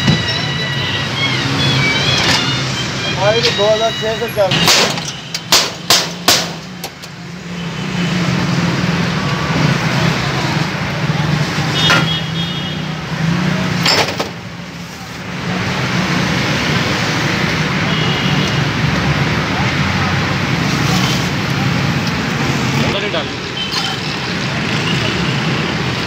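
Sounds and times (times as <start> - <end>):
road traffic hum: 0.0 - 26.0.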